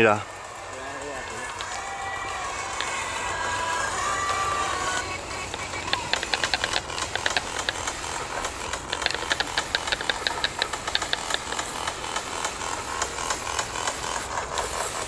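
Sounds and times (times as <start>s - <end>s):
spray can ball rattling: 0.0s - 15.0s
steady hiss: 0.0s - 15.0s.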